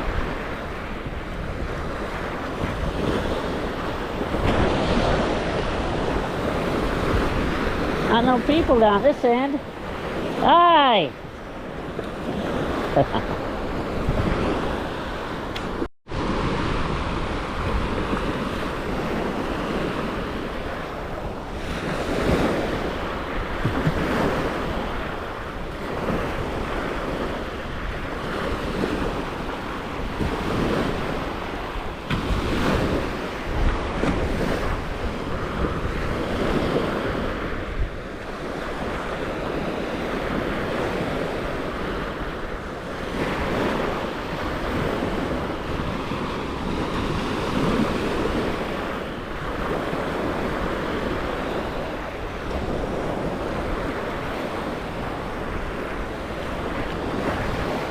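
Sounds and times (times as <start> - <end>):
sea waves washing onto beach: 0.0 - 57.9
wind buffeting microphone: 0.0 - 57.9.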